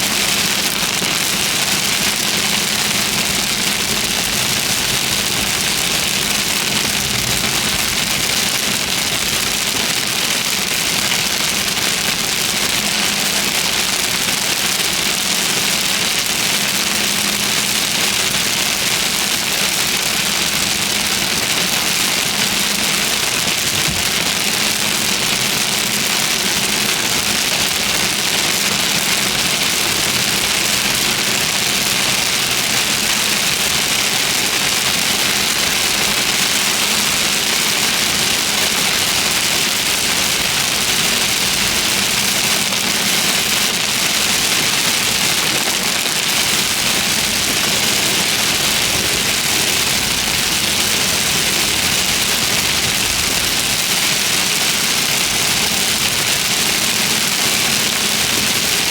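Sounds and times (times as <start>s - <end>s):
heavy rain: 0.0s - 58.9s
vehicle engine idling: 0.0s - 58.9s.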